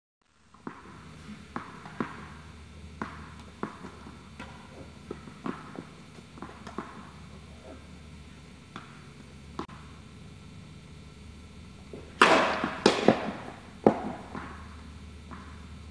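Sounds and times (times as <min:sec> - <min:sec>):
steady low hum: 0:00.2 - 0:15.9.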